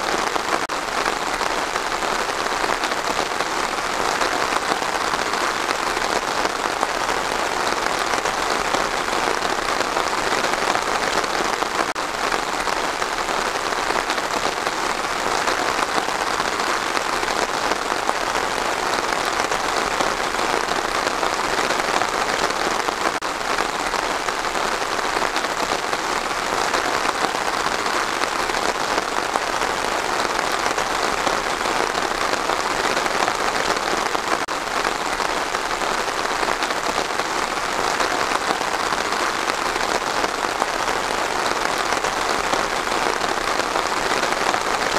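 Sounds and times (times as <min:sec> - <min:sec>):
rain falling on trees: 0:00.0 - 0:44.9.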